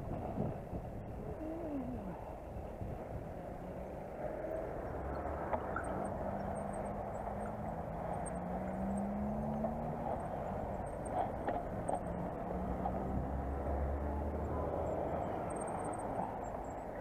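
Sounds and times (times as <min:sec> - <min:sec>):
faint steady hum: 0:00.0 - 0:17.0
wind on camera: 0:00.0 - 0:17.0.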